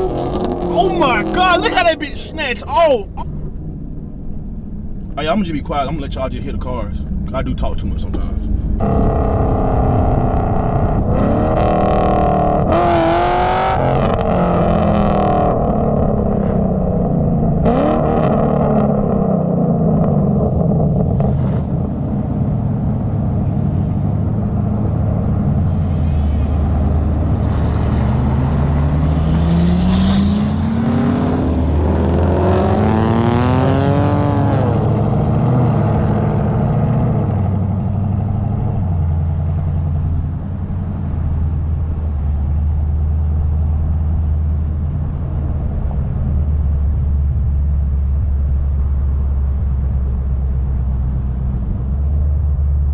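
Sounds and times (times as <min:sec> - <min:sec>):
car engine accelerating: 0:08.4 - 0:52.9.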